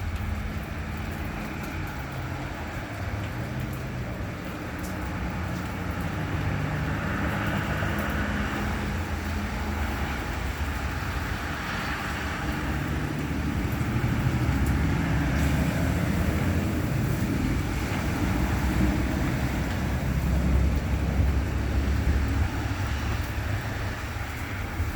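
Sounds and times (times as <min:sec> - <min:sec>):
vehicle engines running: 0:00.0 - 0:24.9.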